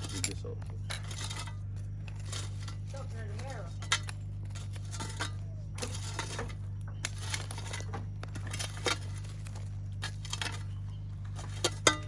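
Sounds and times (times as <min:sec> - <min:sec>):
shovel scraping dirt and stones: 0:00.0 - 0:12.0.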